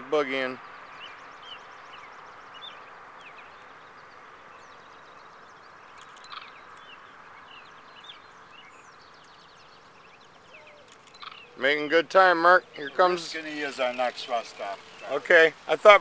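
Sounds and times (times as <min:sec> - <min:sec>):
small birds chirping and singing: 0:00.0 - 0:16.0
steady background hiss: 0:00.0 - 0:16.0.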